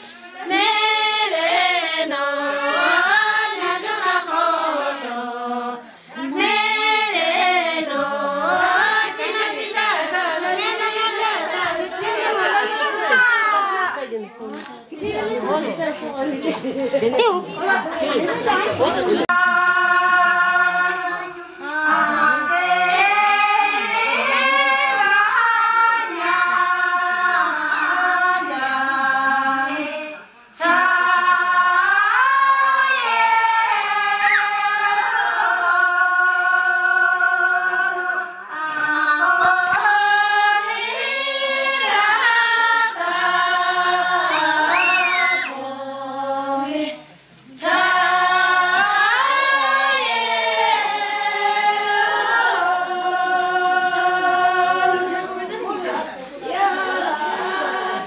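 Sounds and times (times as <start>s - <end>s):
women singing unaccompanied: 0.0s - 58.0s.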